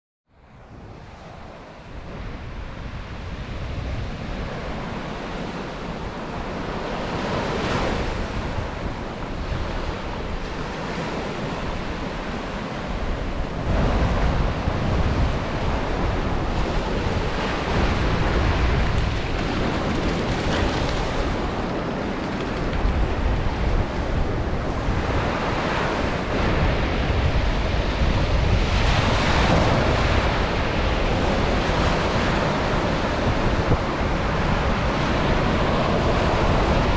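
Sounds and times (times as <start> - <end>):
wind buffeting microphone: 0.4 - 36.9
surf breaking on a beach: 0.7 - 36.9.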